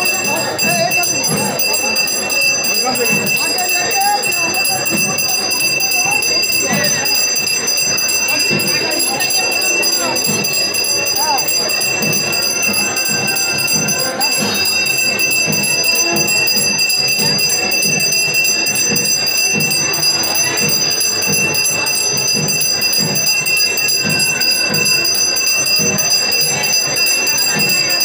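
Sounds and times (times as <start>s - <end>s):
hand bell ringing: 0.0s - 28.0s.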